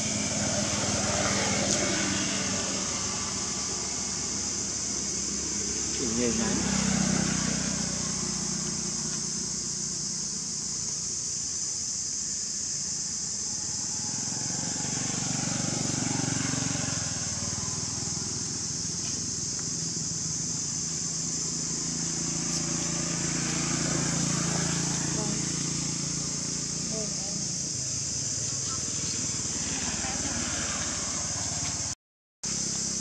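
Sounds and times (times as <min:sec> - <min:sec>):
high hiss: 0:00.0 - 0:33.0.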